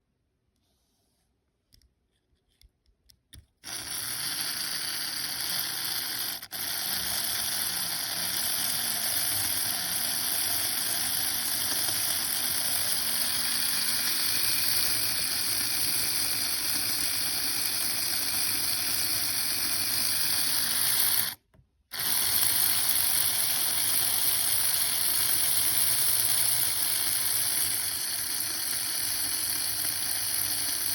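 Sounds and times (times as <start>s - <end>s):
toy car motor whirring: 3.4s - 30.9s.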